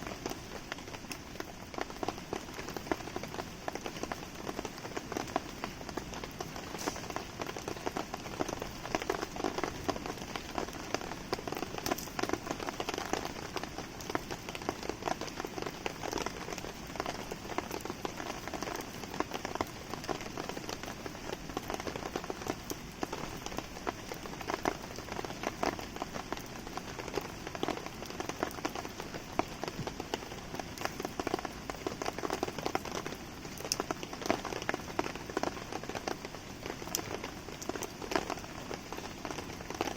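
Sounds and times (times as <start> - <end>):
campfire crackling: 0.0 - 39.9
rain pattering: 0.0 - 39.9.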